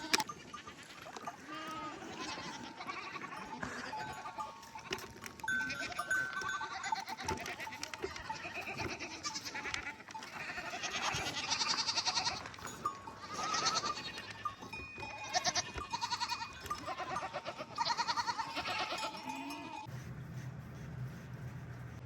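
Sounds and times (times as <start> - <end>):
goats bleating: 0.0 - 19.9.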